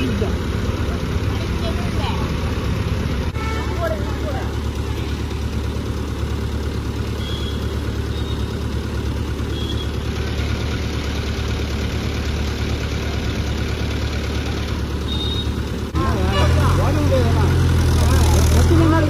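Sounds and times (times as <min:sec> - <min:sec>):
heavy diesel engine idling: 0:00.0 - 0:19.0.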